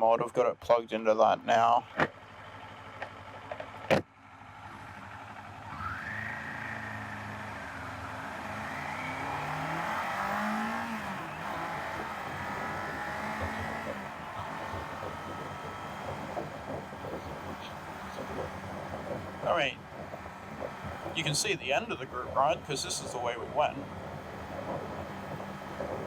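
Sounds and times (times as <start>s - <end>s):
motorcycle engine accelerating: 4.5s - 26.0s.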